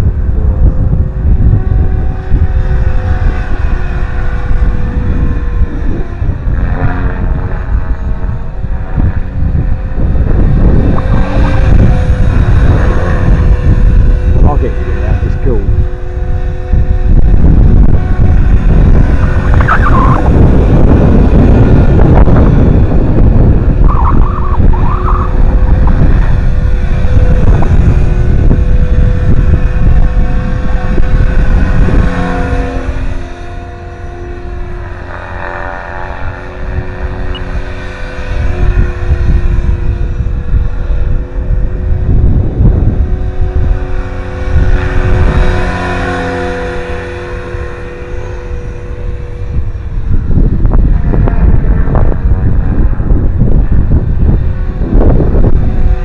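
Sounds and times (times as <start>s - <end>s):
rc helicopter rotor hum: 0.0s - 56.0s
wind buffeting microphone: 0.0s - 56.0s.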